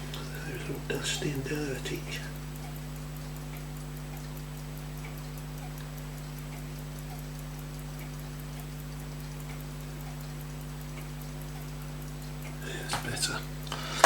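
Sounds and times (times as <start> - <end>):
fast regular ticking: 0.0 - 14.0
low electrical hum: 0.0 - 14.0.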